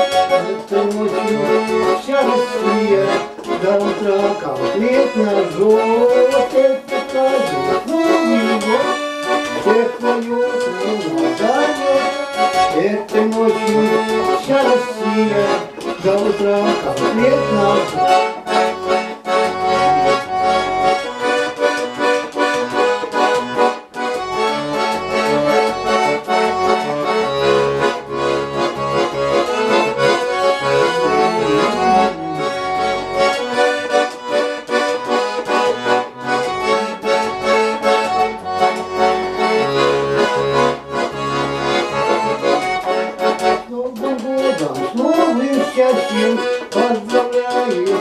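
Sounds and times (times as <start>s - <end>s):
accordion playing cheerful melody: 0.0s - 48.0s.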